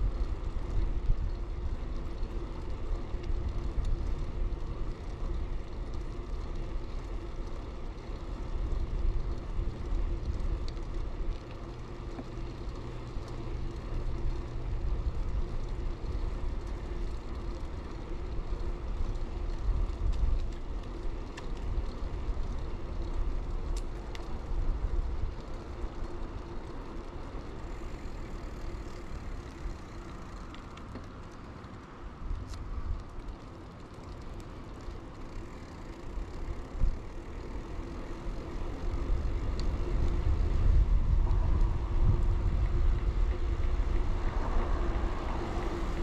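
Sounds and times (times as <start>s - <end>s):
bicycle wind and road rumble: 0.0s - 46.0s
light bicycle clicks: 0.0s - 46.0s.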